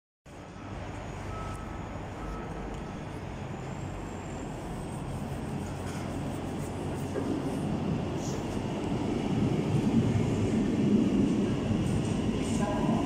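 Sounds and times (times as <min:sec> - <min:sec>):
electric train rumbling: 0:00.3 - 0:13.0.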